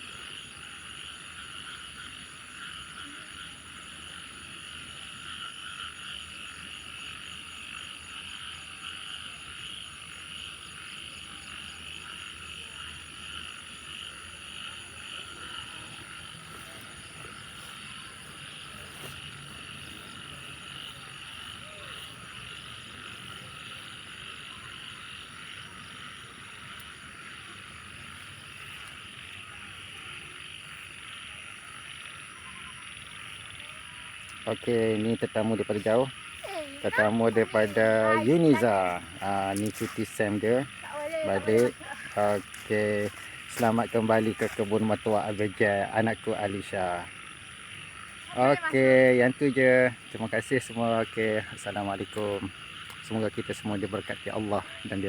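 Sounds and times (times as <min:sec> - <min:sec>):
frogs calling: 0:00.0 - 0:55.0.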